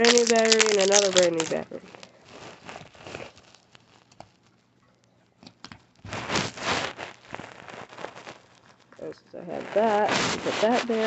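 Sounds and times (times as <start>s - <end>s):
packaging rustling and crinkling: 0.0s - 4.6s, 5.4s - 9.0s, 9.6s - 11.0s.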